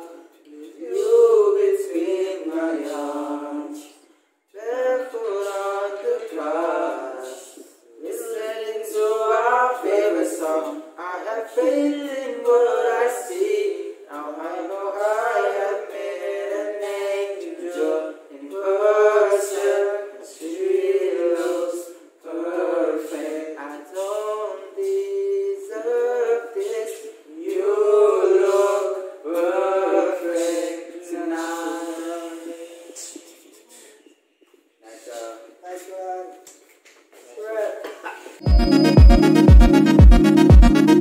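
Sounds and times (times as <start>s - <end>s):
group singing a cappella: 0.0s - 34.2s.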